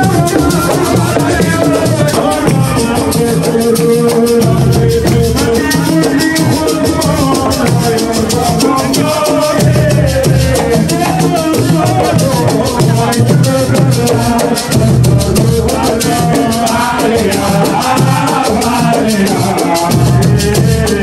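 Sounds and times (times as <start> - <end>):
drums: 0.0 - 21.0
person singing through microphone: 0.0 - 21.0
rattle-like percussion: 0.0 - 21.0.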